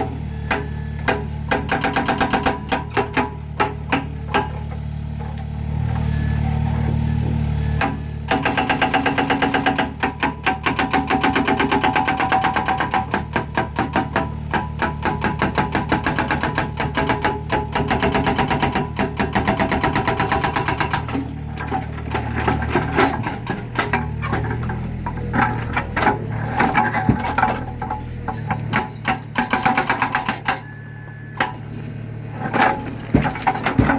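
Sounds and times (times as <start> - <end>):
hydraulic breaker hammering concrete: 0.0 - 4.8, 7.8 - 30.7, 32.5 - 33.9
excavator engine hum: 0.0 - 33.9.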